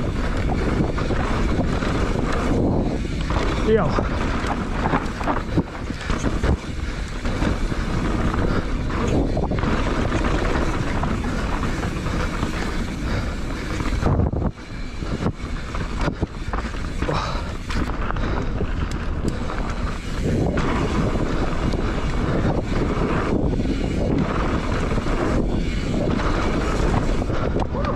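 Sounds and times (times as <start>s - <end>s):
bike knocking and rattling: 0.0s - 27.9s
tyres over dirt and roots: 0.0s - 27.9s
wind rush over microphone: 0.0s - 27.9s.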